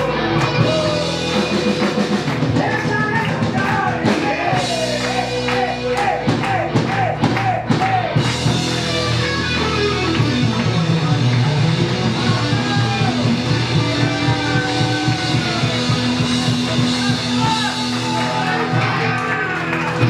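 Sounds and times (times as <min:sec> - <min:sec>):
electric guitar bending notes: 0:00.0 - 0:20.0
live hard rock band: 0:00.0 - 0:20.0.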